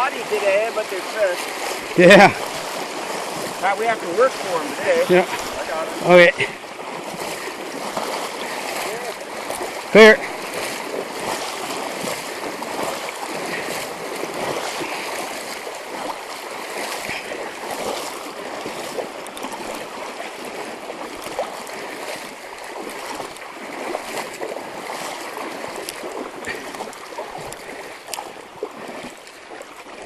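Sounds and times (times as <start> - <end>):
faint splashes: 0.0 - 30.0
fast river water running: 0.0 - 30.0.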